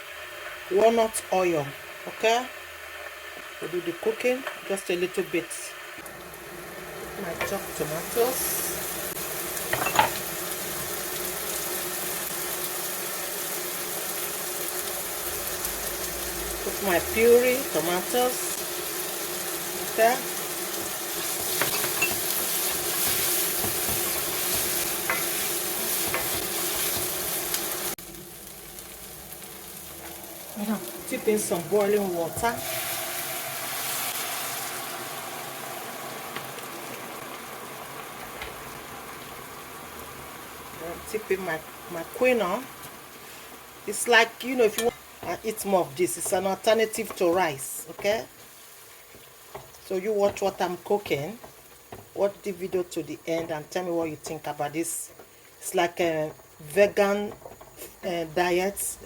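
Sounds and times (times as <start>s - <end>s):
vegetables sizzling in oil: 0.0s - 59.0s.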